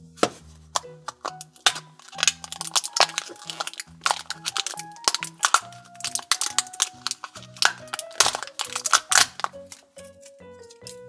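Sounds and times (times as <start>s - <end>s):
light background music: 0.0s - 11.0s
plastic shrink wrap crinkling: 0.3s - 11.0s.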